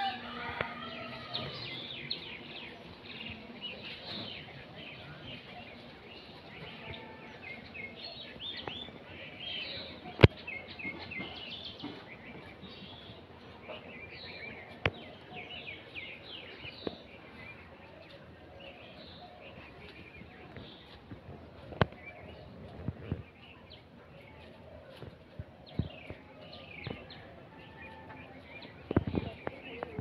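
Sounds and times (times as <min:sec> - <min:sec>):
small birds chirping: 0:00.2 - 0:30.0.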